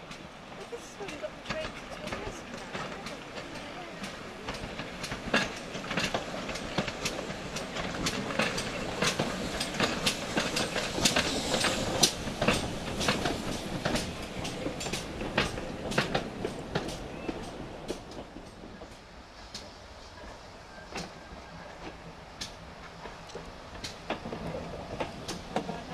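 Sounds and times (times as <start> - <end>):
steam train passing: 0.0 - 25.9
wheels clicking over rail joints: 0.0 - 25.9.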